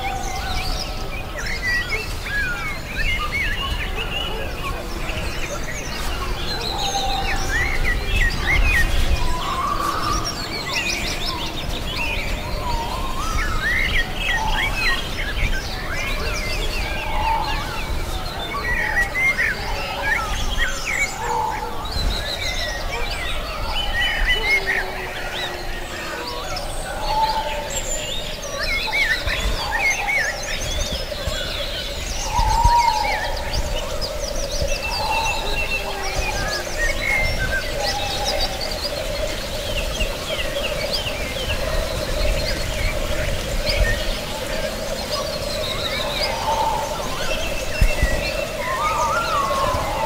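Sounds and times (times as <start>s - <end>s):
birds singing and calling: 0.0s - 50.0s.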